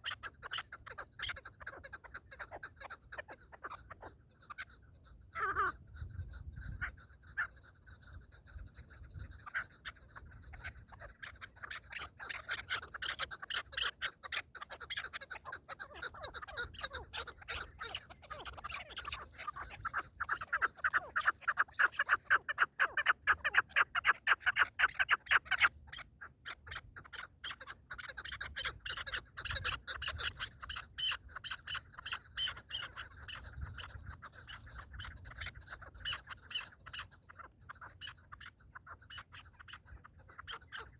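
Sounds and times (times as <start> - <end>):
partridge clucking calls: 0.0 - 40.9.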